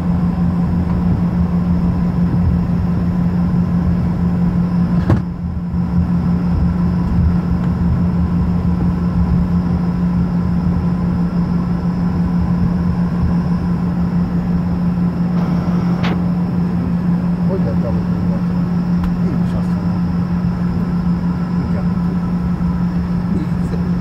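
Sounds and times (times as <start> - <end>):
jet engines droning in cabin: 0.0 - 24.0.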